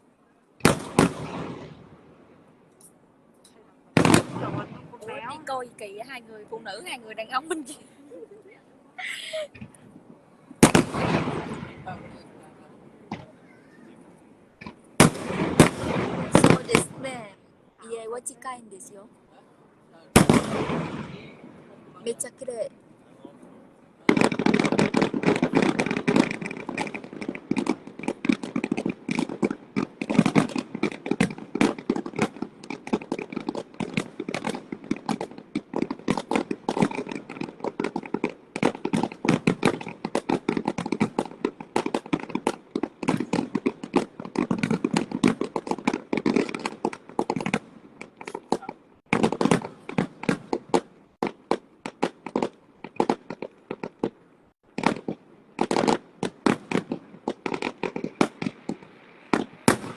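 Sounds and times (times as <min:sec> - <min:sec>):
fireworks bangs and crackles: 0:00.6 - 0:08.6, 0:09.5 - 0:19.2, 0:19.9 - 0:59.9.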